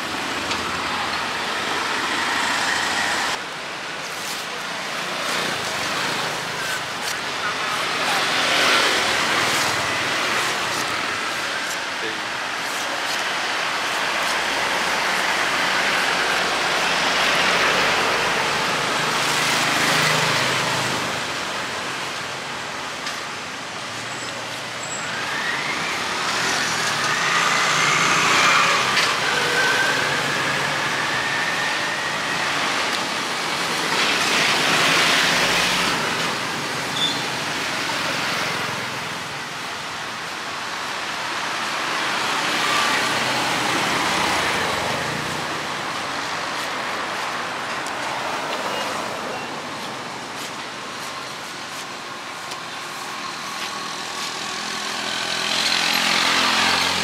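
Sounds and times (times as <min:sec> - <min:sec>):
vehicles passing: 0:00.0 - 0:57.0.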